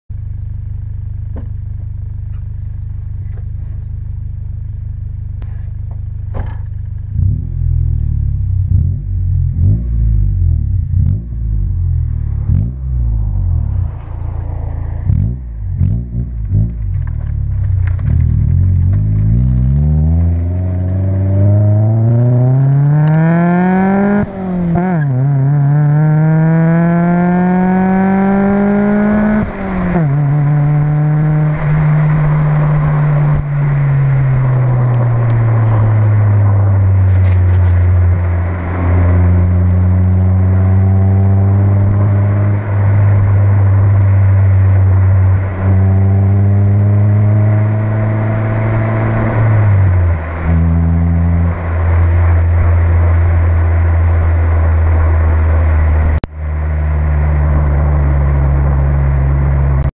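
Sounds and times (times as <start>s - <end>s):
car engine revving: 0.6s - 59.9s.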